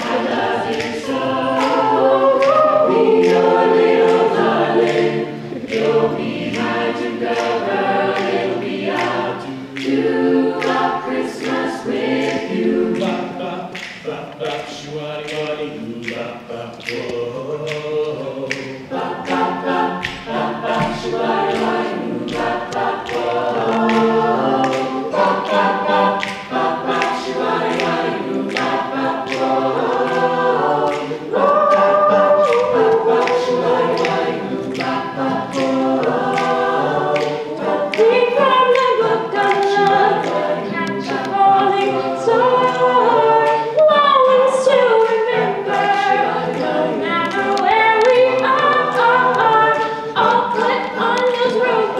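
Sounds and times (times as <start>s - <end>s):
choir singing in harmony: 0.0s - 51.9s.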